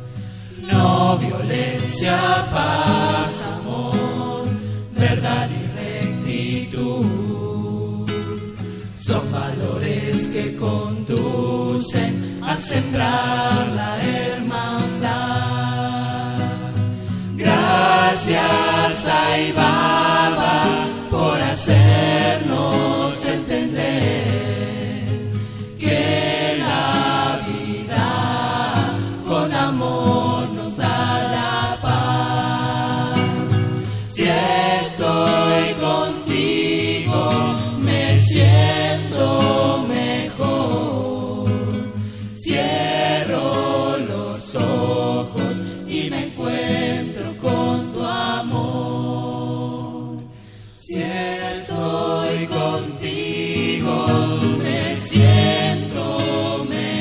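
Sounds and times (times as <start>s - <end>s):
choir singing: 0.6s - 57.0s.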